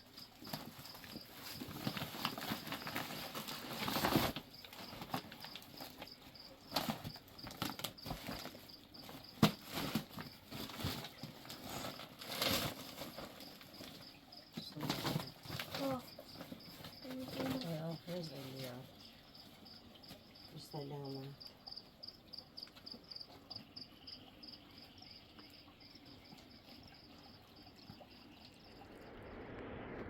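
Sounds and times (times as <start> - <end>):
cricket chirping: 0.0 - 30.0.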